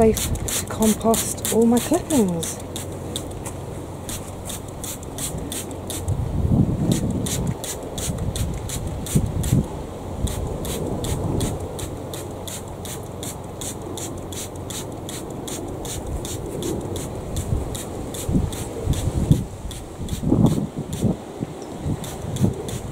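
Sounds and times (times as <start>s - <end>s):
trigger sprayer squirting: 0.0s - 6.2s, 6.9s - 22.9s
wind rumble on microphone: 0.0s - 12.9s, 15.1s - 22.9s
leaves rustling: 0.0s - 22.9s.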